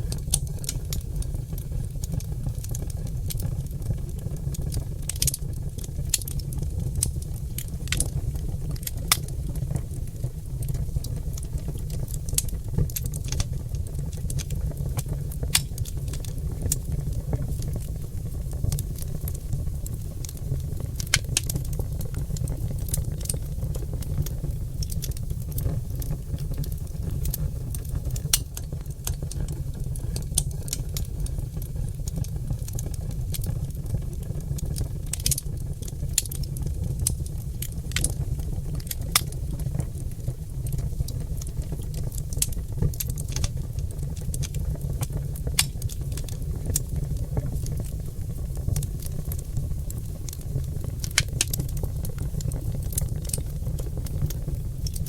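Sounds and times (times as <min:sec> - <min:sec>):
log fire crackling and popping: 0:00.0 - 0:55.0.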